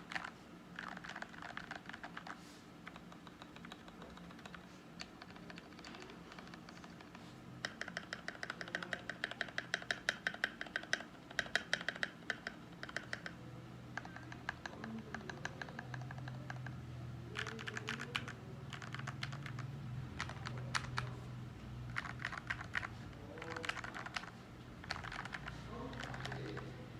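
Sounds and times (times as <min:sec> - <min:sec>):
mechanical keyboard typing: 0:00.0 - 0:13.4, 0:14.0 - 0:21.2, 0:21.8 - 0:26.7.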